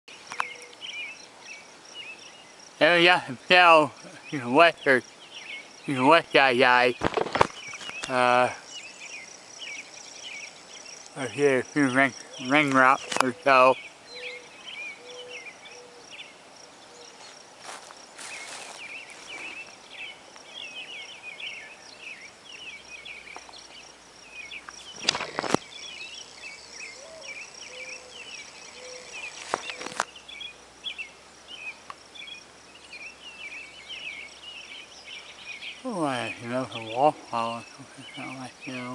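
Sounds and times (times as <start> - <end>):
small birds chirping: 0.0 - 38.9
insect trill: 0.1 - 38.9.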